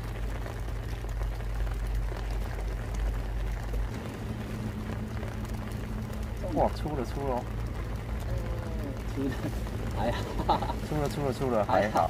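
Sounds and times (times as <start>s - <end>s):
light rain falling: 0.0s - 12.0s
low rumble: 0.0s - 12.0s.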